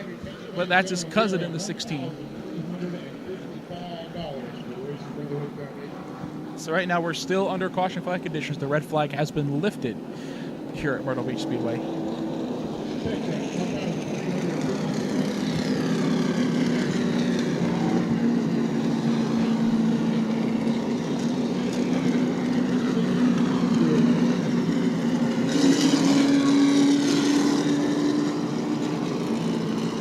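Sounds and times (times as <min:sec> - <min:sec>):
truck engines running steadily: 0:00.0 - 0:30.0
truck passing by: 0:00.0 - 0:30.0.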